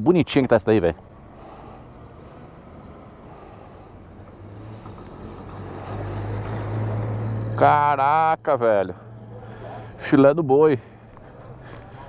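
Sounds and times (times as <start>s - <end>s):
truck engine passing by: 0.9s - 12.0s.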